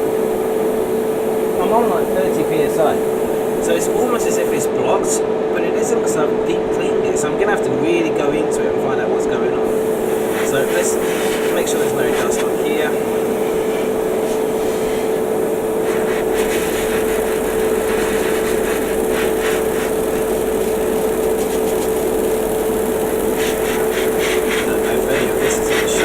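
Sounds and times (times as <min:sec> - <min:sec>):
airbrush air hissing: 0:00.0 - 0:04.8, 0:09.6 - 0:26.0
airbrush compressor humming: 0:00.0 - 0:05.5, 0:09.6 - 0:26.0.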